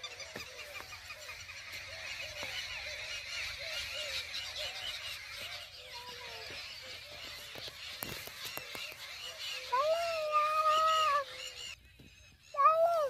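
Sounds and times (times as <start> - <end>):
rising and falling bird calls: 0.0 - 13.0.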